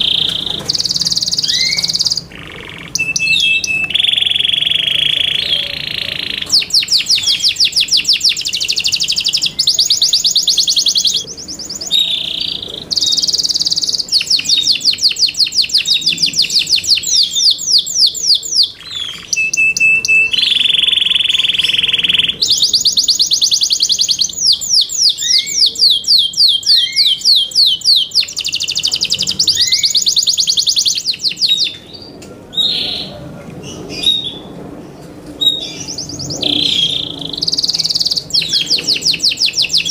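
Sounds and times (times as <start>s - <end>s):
canary singing trills: 0.0s - 34.6s, 35.4s - 39.9s.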